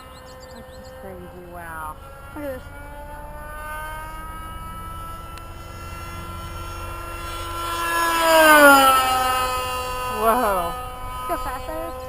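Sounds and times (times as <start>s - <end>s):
model airplane engine whining: 0.0s - 12.0s.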